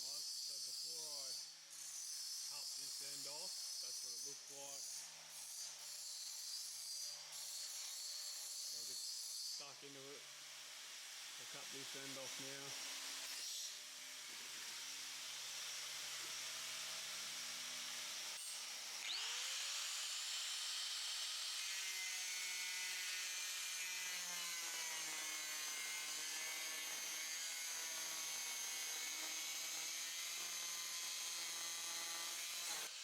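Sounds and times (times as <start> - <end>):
power cutter cutting steel: 0.0 - 33.0.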